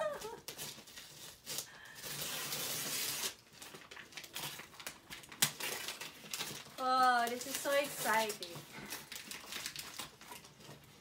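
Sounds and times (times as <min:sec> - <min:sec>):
wrapping paper tearing: 0:00.0 - 0:11.0.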